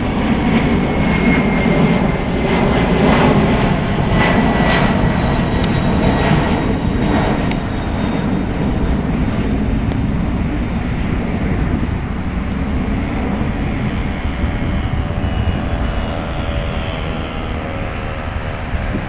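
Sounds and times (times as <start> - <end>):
faint engine whine: 0.0 - 19.0
jet engines roaring: 0.0 - 19.0.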